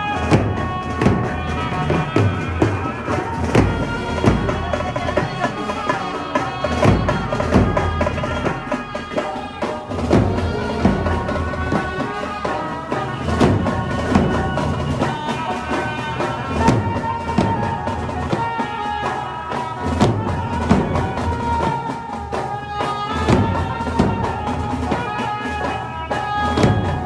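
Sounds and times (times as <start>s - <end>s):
drum beats: 0.0s - 27.0s
heavy drum strikes: 0.0s - 27.0s
sustained melody over loudspeakers: 0.0s - 27.0s.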